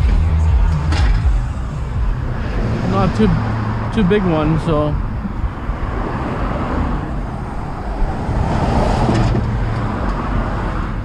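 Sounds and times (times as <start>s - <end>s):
road traffic noise: 0.0s - 11.0s
vehicle passing close by: 1.3s - 11.0s.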